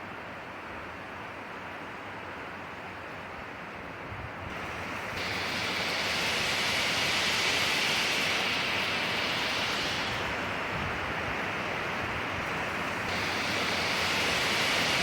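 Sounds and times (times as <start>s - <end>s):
wind through pine trees: 0.0s - 15.0s.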